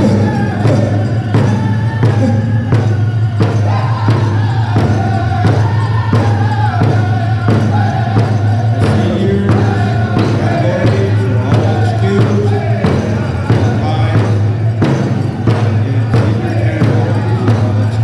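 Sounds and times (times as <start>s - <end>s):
large drum steady beat: 0.0s - 18.0s
men singing together: 0.0s - 18.0s.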